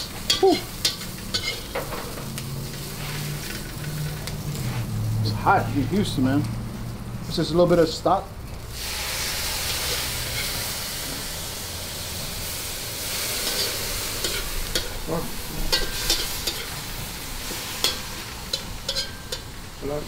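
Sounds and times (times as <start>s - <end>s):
vegetables sizzling in a wok: 0.0s - 20.0s.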